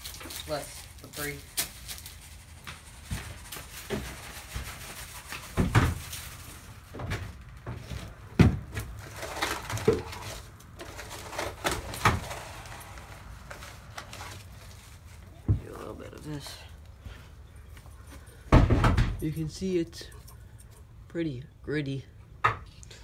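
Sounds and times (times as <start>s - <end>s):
rustling: 0.0s - 18.5s.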